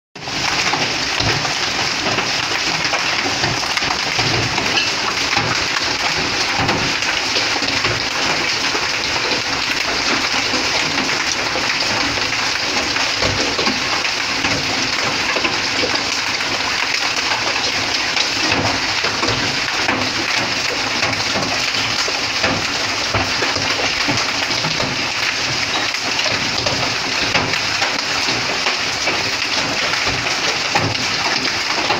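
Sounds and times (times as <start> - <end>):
hail and heavy rain pelting: 0.2 - 31.9.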